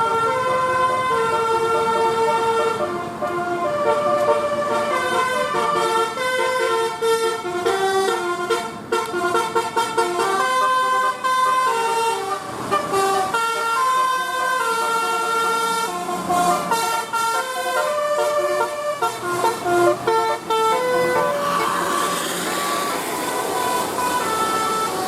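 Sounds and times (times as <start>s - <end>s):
bus horn playing a tune: 0.0s - 25.0s.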